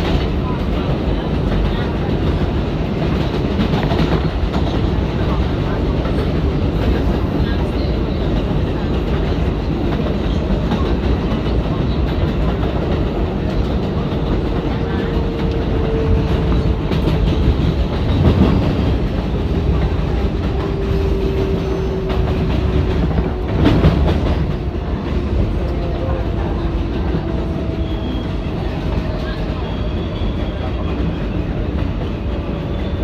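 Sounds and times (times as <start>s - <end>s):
subway wheels rumbling on rail: 0.0s - 33.0s.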